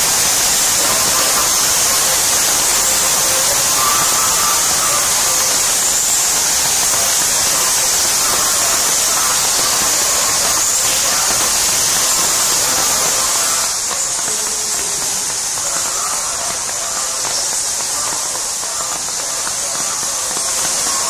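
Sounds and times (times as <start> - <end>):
water rushing through cave: 0.0 - 21.0.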